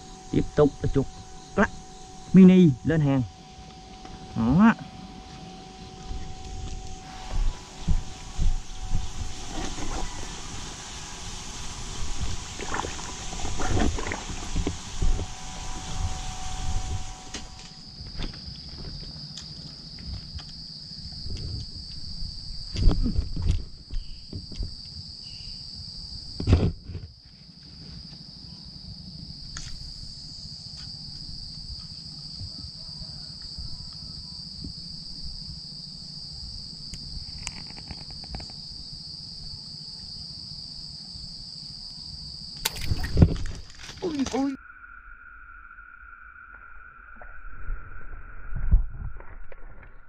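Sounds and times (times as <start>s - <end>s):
insects droning: 0.0s - 50.0s.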